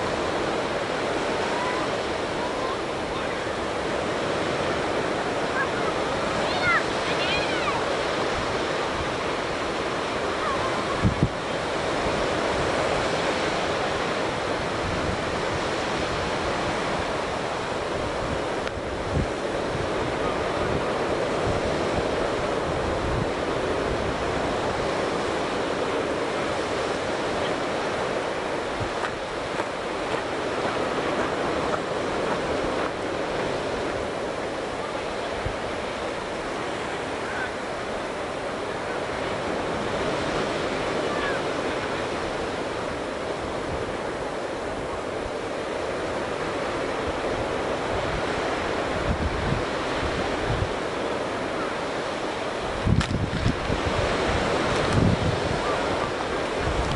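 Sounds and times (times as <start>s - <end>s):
ocean surf washing onto beach: 0.0s - 56.9s
wind blowing across microphone: 0.0s - 56.9s.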